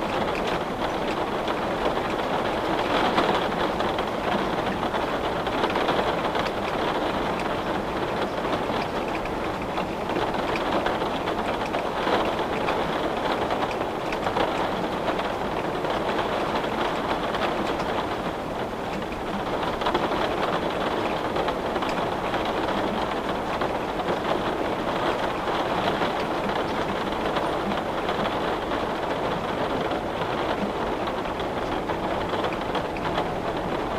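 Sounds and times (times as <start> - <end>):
rain on a window: 0.0 - 33.9.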